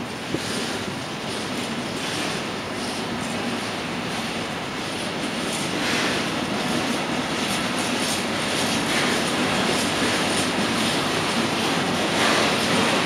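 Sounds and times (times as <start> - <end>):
freight wagons rolling on rails: 0.0 - 13.0.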